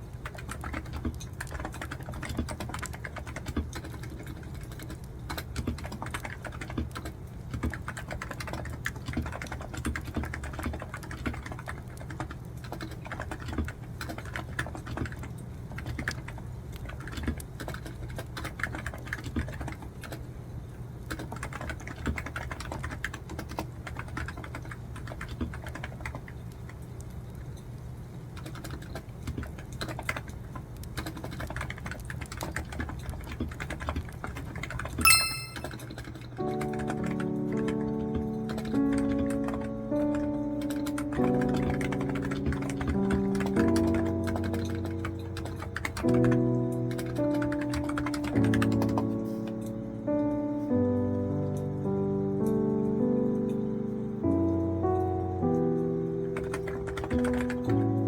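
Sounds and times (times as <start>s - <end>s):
computer keyboard typing: 0.0s - 20.3s, 21.1s - 26.7s, 28.4s - 58.0s.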